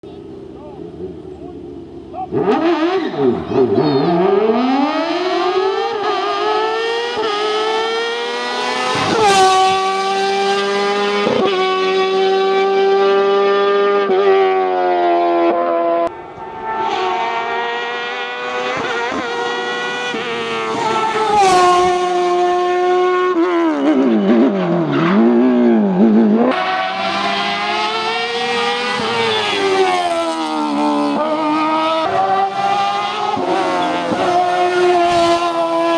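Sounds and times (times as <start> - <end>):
race car engine at high revs: 0.0 - 35.9.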